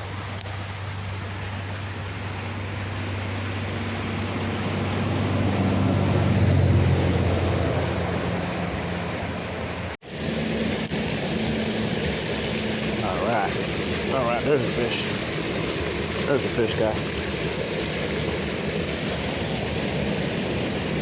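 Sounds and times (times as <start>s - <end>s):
low engine drone: 0.0s - 21.0s
steady noise wash: 1.8s - 21.0s.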